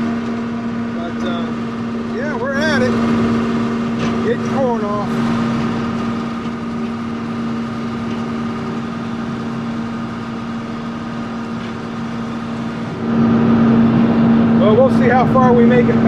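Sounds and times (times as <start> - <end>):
combine harvester engine humming: 0.0 - 16.0.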